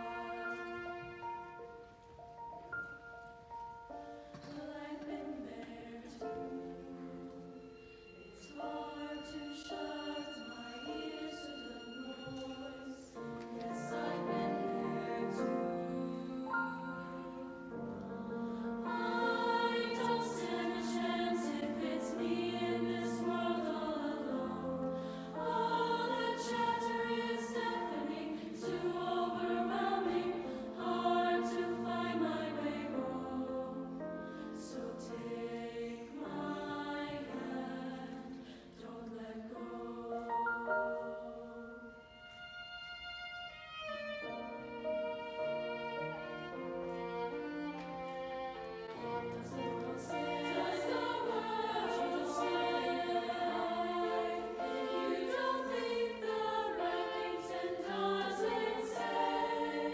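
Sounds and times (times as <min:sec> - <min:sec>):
choir singing in parts: 0:04.2 - 0:42.4, 0:48.7 - 0:59.9.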